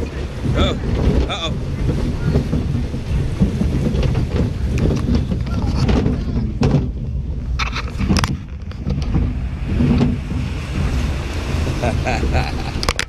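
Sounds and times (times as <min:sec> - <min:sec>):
raft rumbling and knocking: 0:00.0 - 0:13.0
rushing water: 0:00.0 - 0:13.0
knocks close to microphone: 0:00.4 - 0:13.0.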